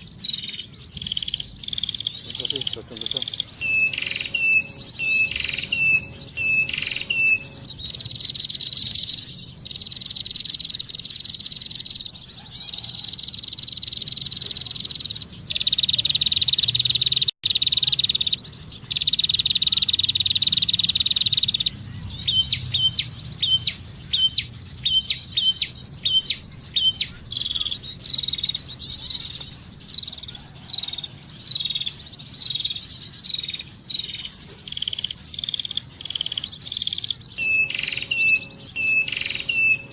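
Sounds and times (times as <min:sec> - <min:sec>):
buzzy bird trills: 0:00.0 - 0:39.9
falling bird chirps: 0:00.0 - 0:39.9
sharp repeated bird chirps: 0:00.0 - 0:39.9.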